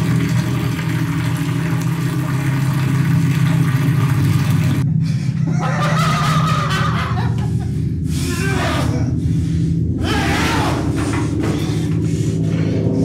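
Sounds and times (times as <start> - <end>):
low droning rumble: 0.0 - 13.0.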